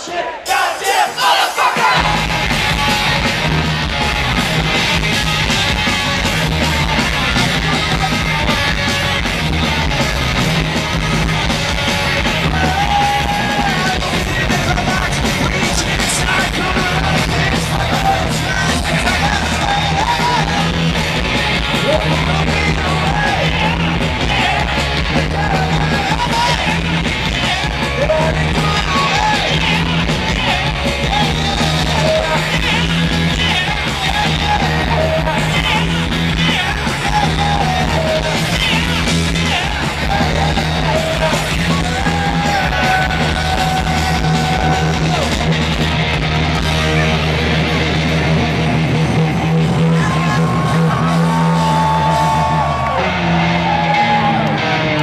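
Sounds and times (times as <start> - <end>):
punk rock band playing: 0.0 - 55.0
yelled singing: 0.0 - 55.0.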